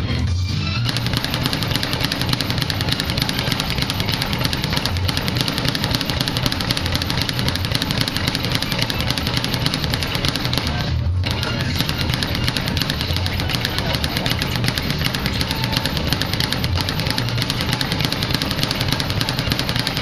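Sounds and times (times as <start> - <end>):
speed bag rattling: 0.9 - 20.0.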